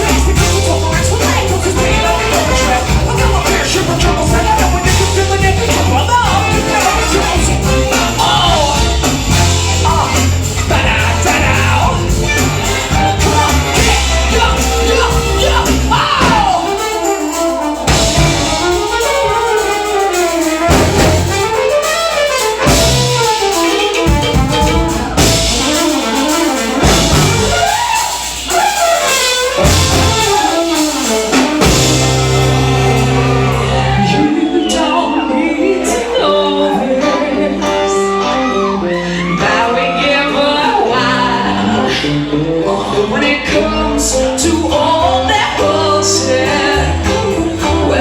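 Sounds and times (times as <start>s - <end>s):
drum kit: 0.0s - 34.8s, 43.5s - 48.0s
trumpet: 0.0s - 42.8s
bass: 0.0s - 48.0s
saxophone: 0.0s - 48.0s.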